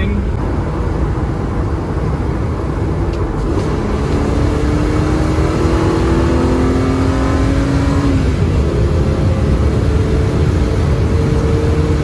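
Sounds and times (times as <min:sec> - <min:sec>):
car engine accelerating: 0:00.0 - 0:12.0
low road rumble: 0:00.0 - 0:12.0.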